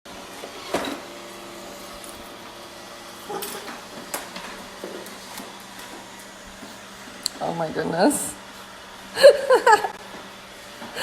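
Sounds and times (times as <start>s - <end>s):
robot vacuum humming: 0.1s - 11.0s.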